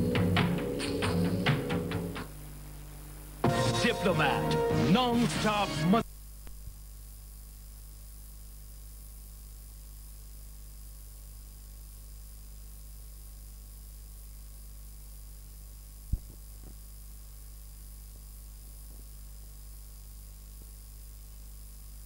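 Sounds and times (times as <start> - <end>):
faint videotape hiss: 0.0 - 22.0
low mains hum: 0.0 - 22.0.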